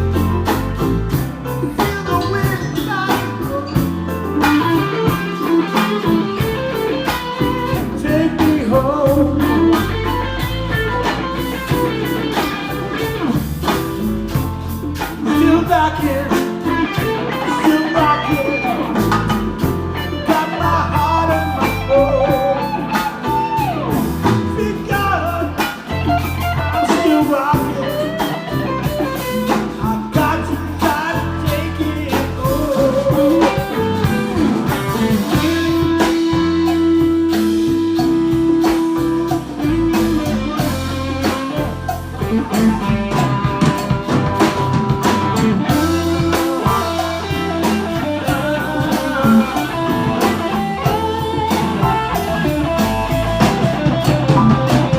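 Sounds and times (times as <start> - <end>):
lead guitar: 0.0 - 54.9
live band playing: 0.0 - 54.9.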